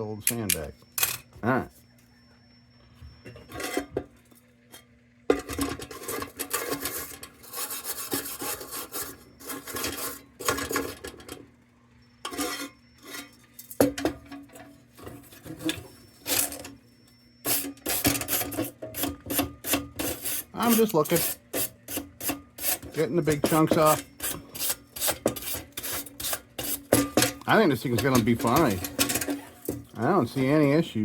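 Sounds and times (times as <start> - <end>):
hand scraping metal lantern: 3.2 - 11.5, 12.2 - 16.8, 17.4 - 30.9.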